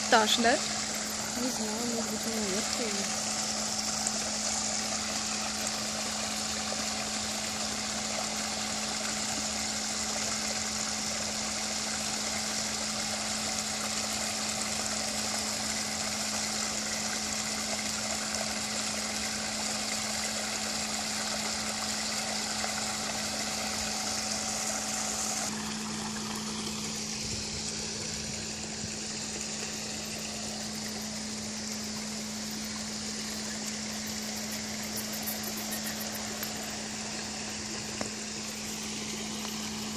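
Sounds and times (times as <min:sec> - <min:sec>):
small waterfall splashing: 0:00.0 - 0:39.9
steady low hum: 0:00.0 - 0:39.9.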